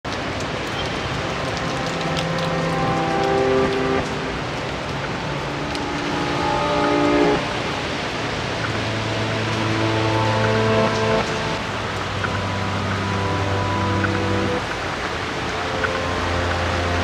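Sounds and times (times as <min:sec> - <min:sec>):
rain hissing: 0:00.0 - 0:17.0
traffic on wet street: 0:00.0 - 0:17.0
background music chords: 0:01.0 - 0:17.0.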